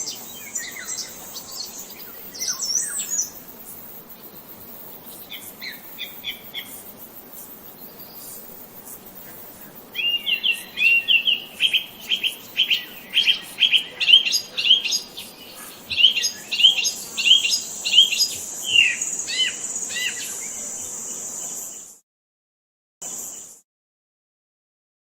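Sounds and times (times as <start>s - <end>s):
songbird chirping: 0.0s - 8.6s, 9.2s - 21.9s.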